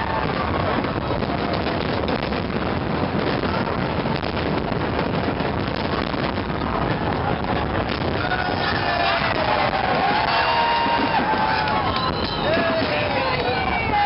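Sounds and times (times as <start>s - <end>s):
outdoor fireworks din: 0.0s - 14.0s
wind buffeting microphone: 0.0s - 14.0s.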